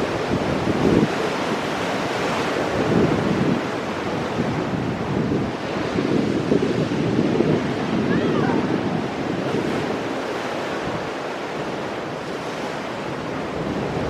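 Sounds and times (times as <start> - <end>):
surf washing over rocks: 0.0 - 14.0
wind buffeting microphone: 0.0 - 14.0.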